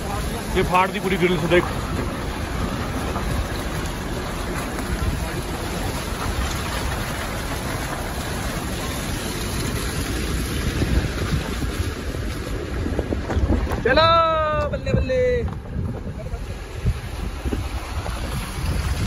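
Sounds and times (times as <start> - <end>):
low engine: 0.0 - 19.0
tyres on wet mud and gravel: 0.0 - 19.0.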